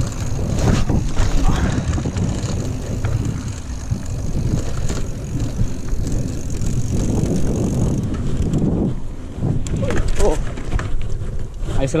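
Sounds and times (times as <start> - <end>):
bike clicks and rattles: 0.0 - 12.0
bike tyre noise on dirt: 0.0 - 12.0
wind buffeting microphone: 0.0 - 12.0.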